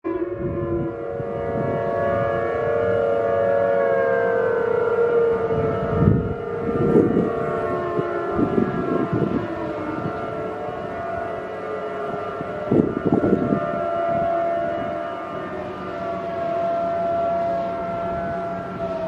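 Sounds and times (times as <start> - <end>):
warning sirens wailing: 0.0 - 19.0.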